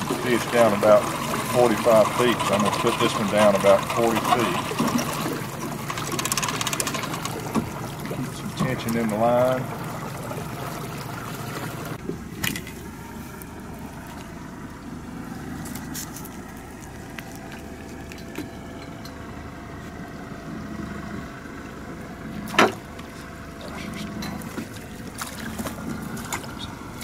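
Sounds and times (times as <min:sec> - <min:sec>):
outboard motor humming: 0:00.0 - 0:27.0.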